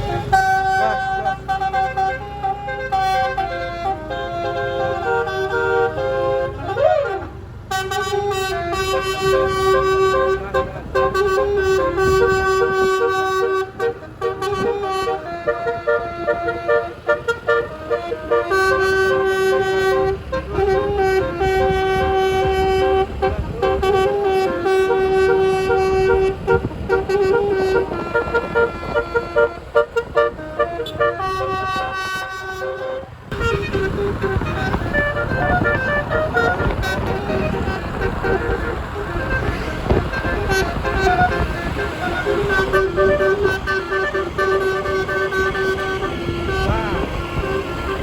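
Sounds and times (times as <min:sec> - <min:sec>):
musical air horn tune: 0:00.0 - 0:48.0.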